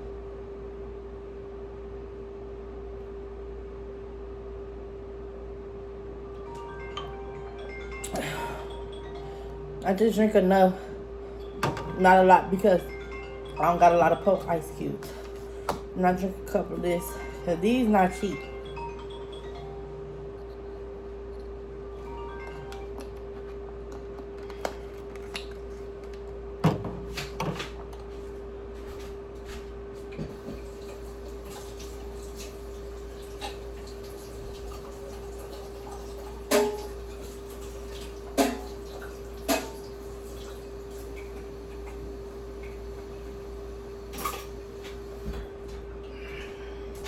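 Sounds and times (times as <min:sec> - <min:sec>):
steady hum: 0:00.0 - 0:47.0.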